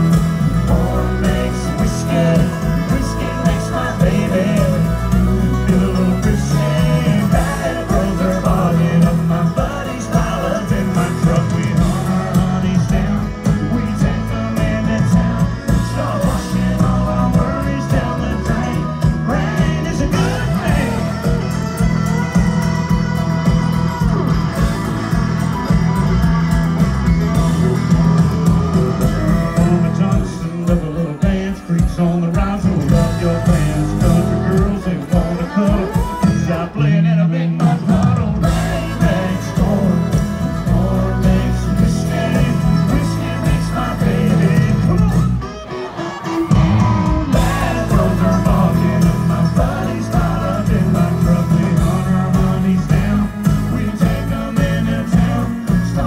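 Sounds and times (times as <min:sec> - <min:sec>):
man singing into microphone: 0:00.0 - 0:21.6, 0:29.5 - 0:45.5, 0:46.5 - 0:56.0
live country band playing: 0:00.0 - 0:56.0.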